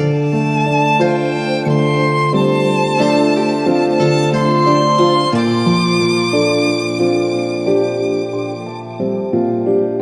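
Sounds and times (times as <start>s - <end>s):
held string chords: 0.0s - 9.8s
violin melody: 0.0s - 10.0s.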